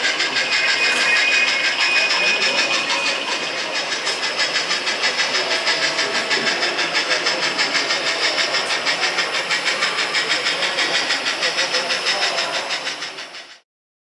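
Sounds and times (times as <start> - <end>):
model steam locomotive chuffing: 0.0 - 13.6.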